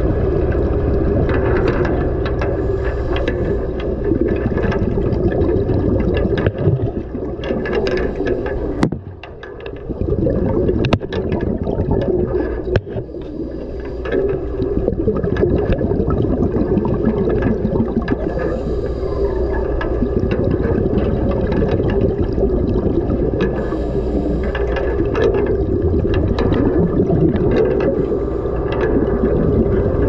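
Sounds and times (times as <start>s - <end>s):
muffled underwater rush and bubbling: 0.0s - 30.0s
sharp clicks underwater: 0.0s - 30.0s.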